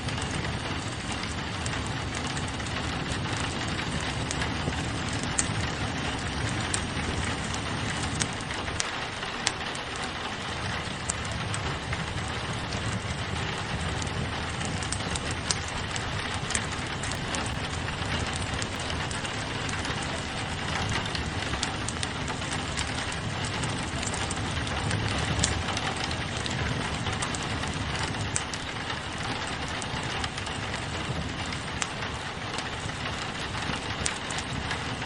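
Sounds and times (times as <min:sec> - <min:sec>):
rain on a window: 0:00.0 - 0:35.0
wood fire crackling and popping: 0:00.0 - 0:35.0.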